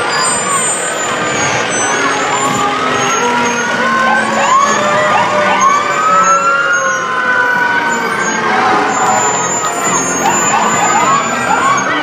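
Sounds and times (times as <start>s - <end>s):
emergency sirens wailing: 0.0s - 12.0s
hum of trucks: 0.0s - 12.0s.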